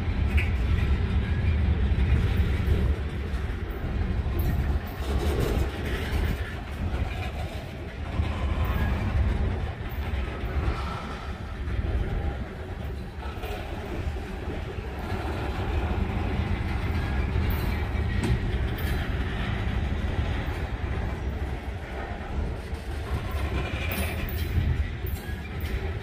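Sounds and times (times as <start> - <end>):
freight train rumbling: 0.0 - 26.0
wheels clicking over rail joints: 0.1 - 26.0.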